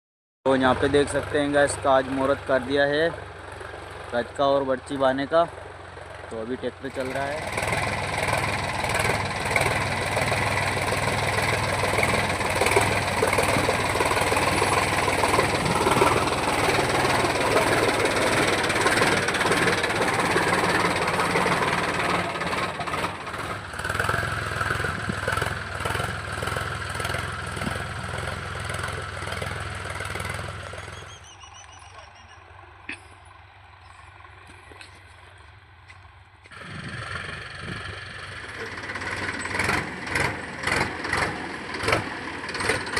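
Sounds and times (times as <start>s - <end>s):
tractor engine running: 0.5s - 42.9s.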